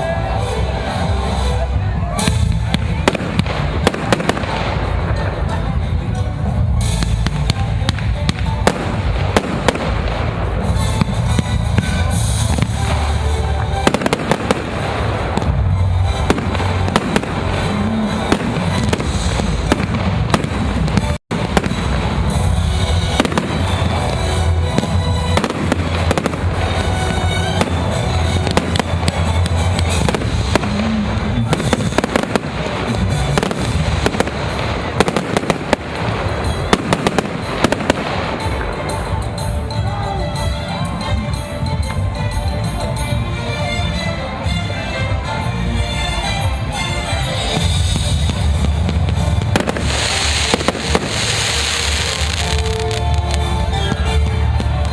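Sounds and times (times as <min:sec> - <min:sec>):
fireworks cracking and banging: 0:00.0 - 0:42.1, 0:45.9 - 0:54.9
music with heavy bass: 0:00.0 - 0:54.9.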